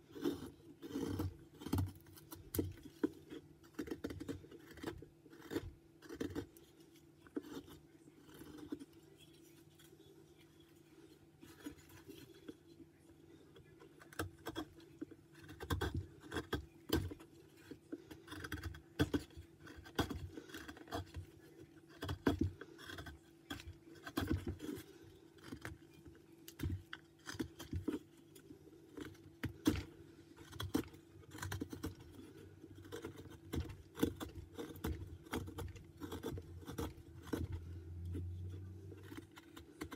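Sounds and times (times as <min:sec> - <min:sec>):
carving knife scraping wood: 0:00.0 - 0:10.1, 0:11.4 - 0:12.8, 0:13.6 - 0:39.9
faint steady hum: 0:00.0 - 0:39.9.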